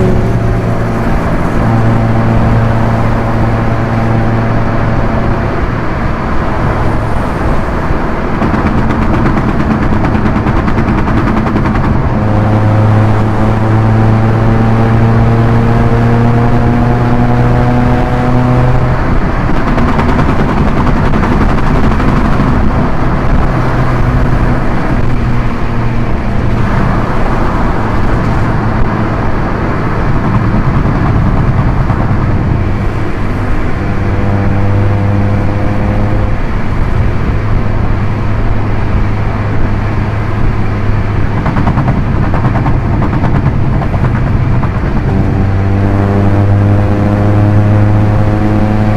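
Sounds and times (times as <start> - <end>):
car engine at high speed: 0.0 - 48.9
tyre and wind noise: 0.0 - 48.9.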